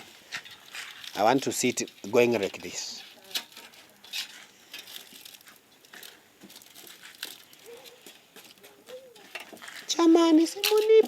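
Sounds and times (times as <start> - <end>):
packing wrap crinkling and rustling: 0.0 - 11.0.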